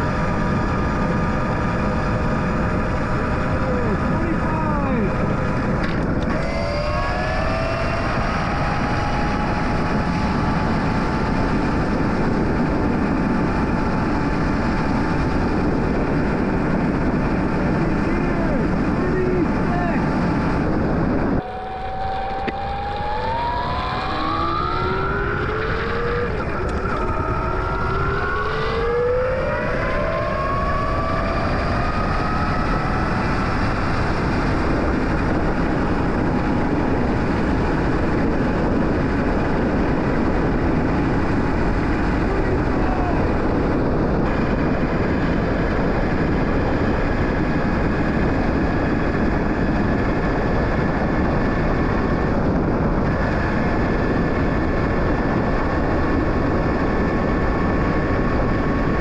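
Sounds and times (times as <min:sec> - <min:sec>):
electric motorcycle motor whining: 0:00.0 - 0:59.0
wind rush on microphone: 0:00.0 - 0:59.0.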